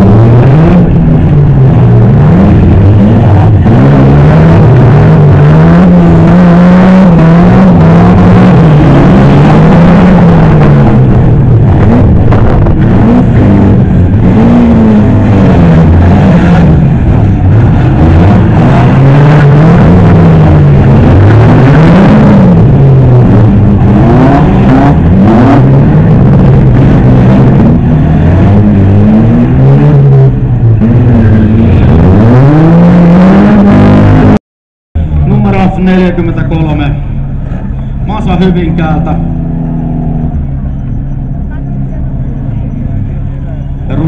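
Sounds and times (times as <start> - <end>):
car engines revving: 0.0 - 34.4, 35.0 - 44.0.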